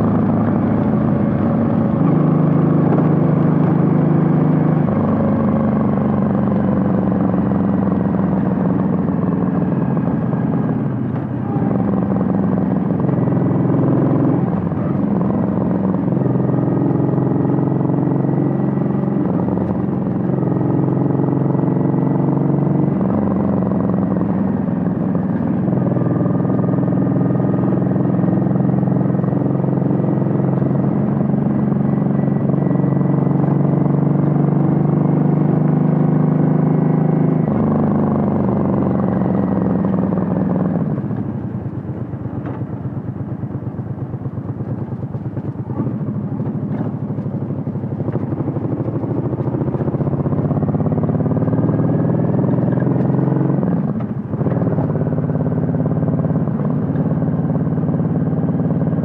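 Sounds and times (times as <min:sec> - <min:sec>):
motorcycle exhaust under throttle: 0:00.0 - 0:59.0.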